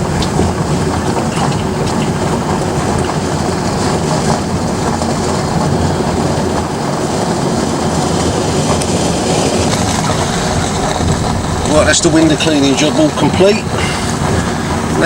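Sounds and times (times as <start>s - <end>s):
vehicle road and engine rumble: 0.0s - 15.0s.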